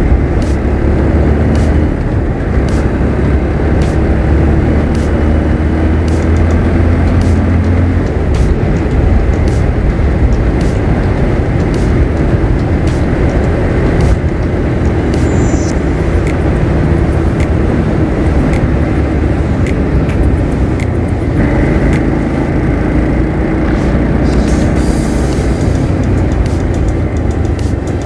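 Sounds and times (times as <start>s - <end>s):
motorcycle engine: 0.0s - 28.0s
wind noise on microphone: 0.0s - 28.0s.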